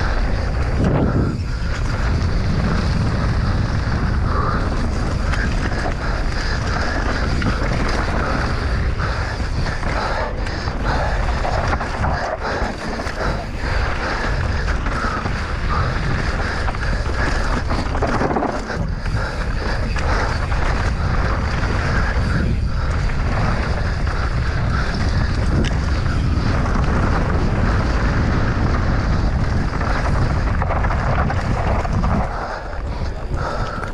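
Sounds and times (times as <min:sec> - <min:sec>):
bike tyre noise and clatter: 0:00.0 - 0:33.9
heavy wind rush on microphone: 0:00.0 - 0:33.9.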